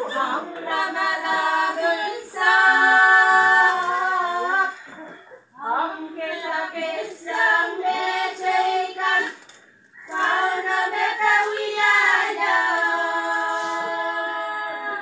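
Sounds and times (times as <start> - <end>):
women singing unaccompanied: 0.0 - 15.0.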